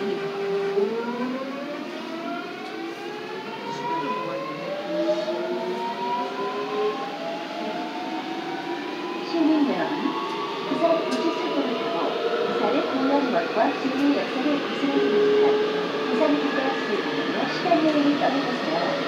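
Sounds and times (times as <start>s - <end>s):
subway train motors whining: 0.0s - 19.0s.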